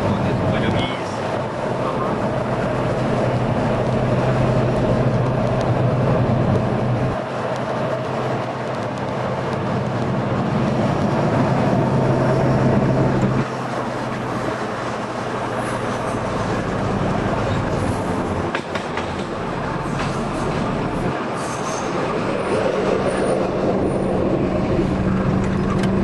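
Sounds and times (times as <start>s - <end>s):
tram wheels on rails: 0.0s - 26.0s.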